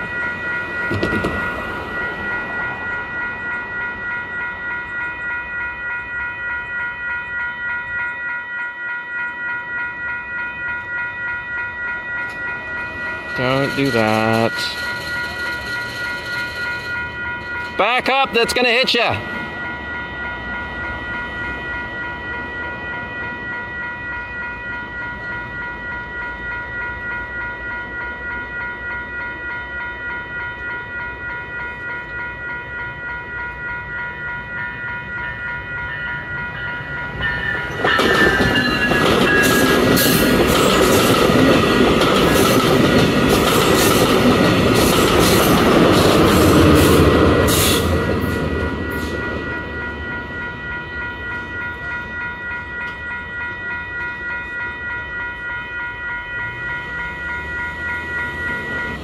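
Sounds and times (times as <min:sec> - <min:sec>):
level crossing bells ringing: 0:00.0 - 0:59.0
passenger train passing: 0:00.0 - 0:59.0.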